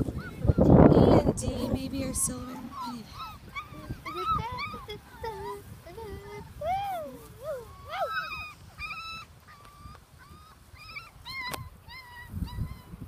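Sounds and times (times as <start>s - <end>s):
puppies yipping and whining: 0.0s - 0.7s, 2.5s - 13.0s.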